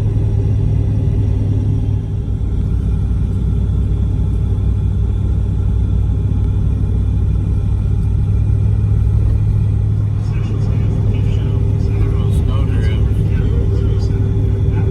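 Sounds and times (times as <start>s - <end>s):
car driving rumble: 0.0s - 14.9s.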